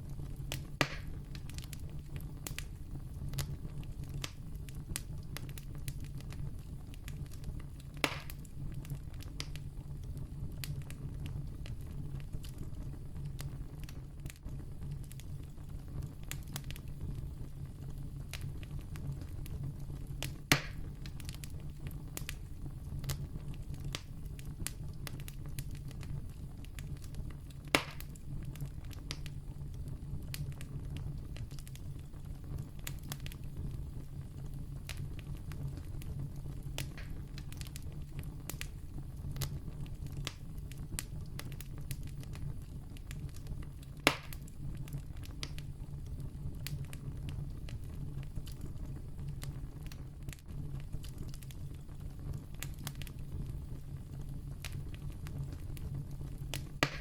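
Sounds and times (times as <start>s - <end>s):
campfire crackling: 0.0s - 57.0s
sharp fire pops: 0.1s - 17.3s, 18.0s - 57.0s.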